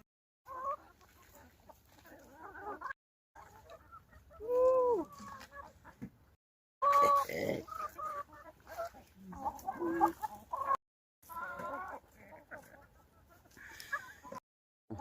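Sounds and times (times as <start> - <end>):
hens clucking: 0.5 - 15.0.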